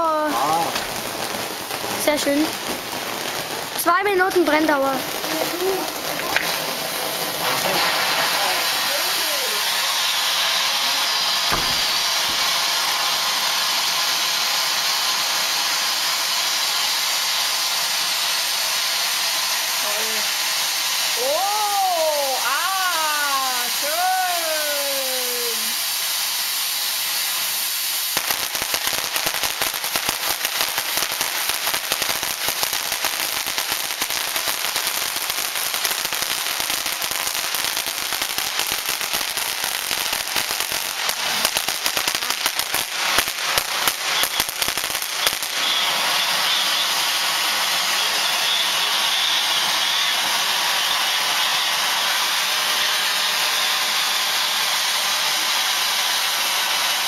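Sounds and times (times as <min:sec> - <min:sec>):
firework crackling: 0:00.0 - 0:57.0
firework fountain hissing: 0:00.0 - 0:57.0.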